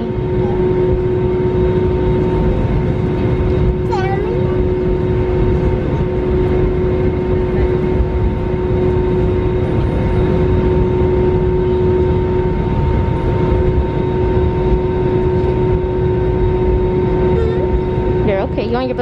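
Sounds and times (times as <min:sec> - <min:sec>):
constant cabin hum: 0:00.0 - 0:19.0
jet engine and airflow rumble: 0:00.0 - 0:19.0.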